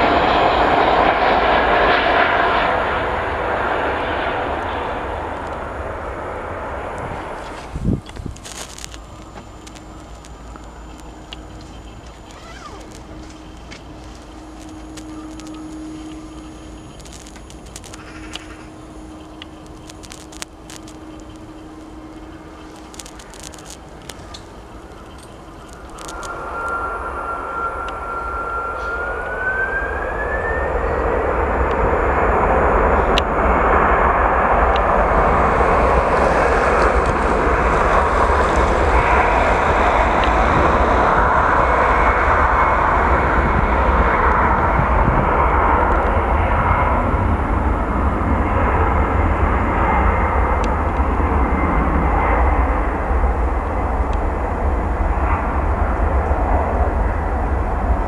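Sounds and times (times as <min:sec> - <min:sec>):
jet engines roaring: 0:00.0 - 0:58.0
jet engines spooling up: 0:00.0 - 0:58.0.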